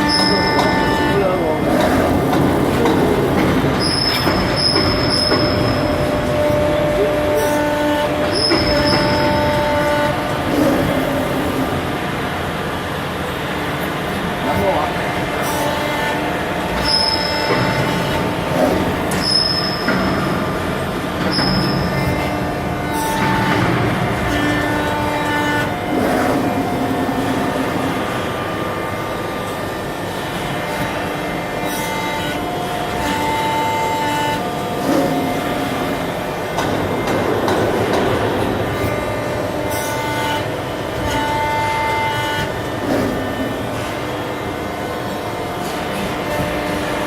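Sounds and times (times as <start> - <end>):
high-pitched machine whine: 0.0 - 47.0
low machinery hum: 0.0 - 47.0.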